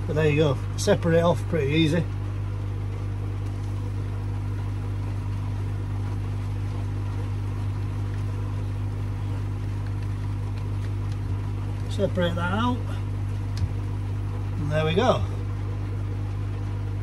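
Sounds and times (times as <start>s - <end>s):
pond filter humming: 0.0s - 17.0s.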